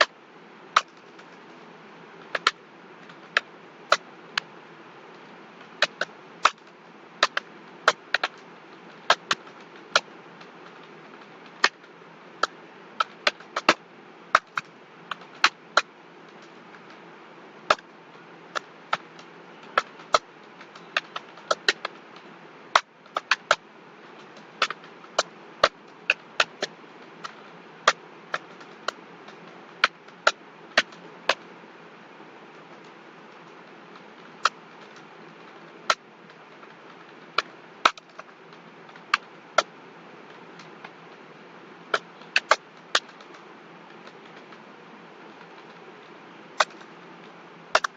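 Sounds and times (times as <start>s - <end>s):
steady background hiss: 0.0s - 47.9s.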